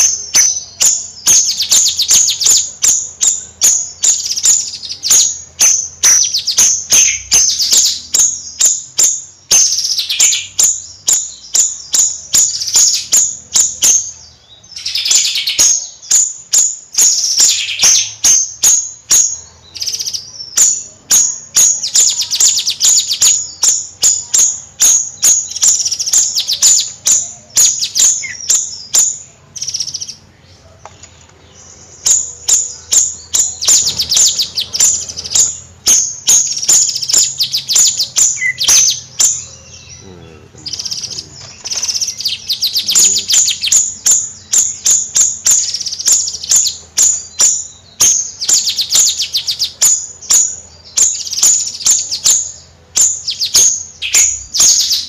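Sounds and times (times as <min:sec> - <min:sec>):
songbird chips and trills: 0:00.0 - 0:55.0.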